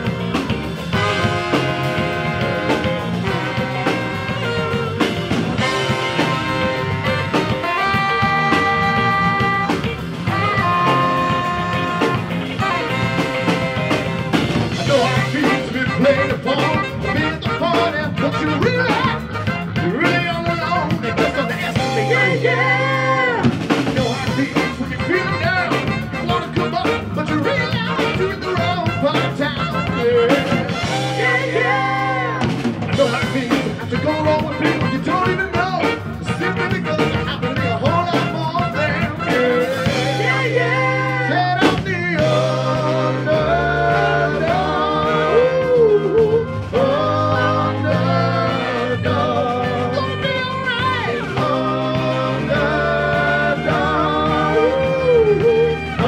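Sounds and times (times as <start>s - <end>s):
drum kit: 0.0s - 56.0s
keyboard: 0.0s - 56.0s
saxophones: 0.0s - 56.0s
trombone: 0.0s - 56.0s
upright bass: 0.0s - 56.0s.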